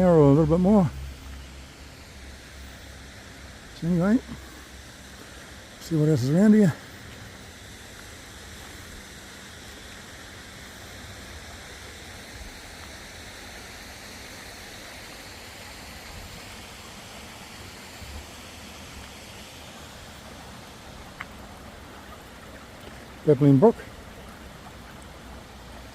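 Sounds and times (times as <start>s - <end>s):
brook babbling: 0.0s - 25.9s.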